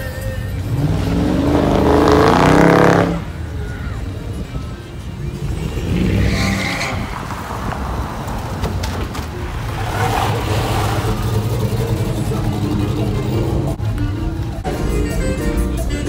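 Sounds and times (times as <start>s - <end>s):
vehicle engines revving: 0.0s - 16.0s.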